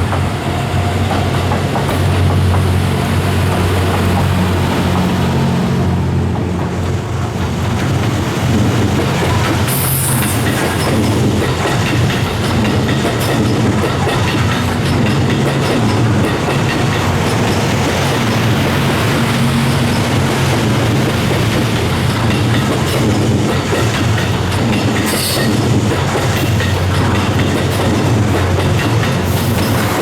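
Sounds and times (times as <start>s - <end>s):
train engine hum: 0.0s - 30.0s
train wheels on rails: 0.0s - 30.0s.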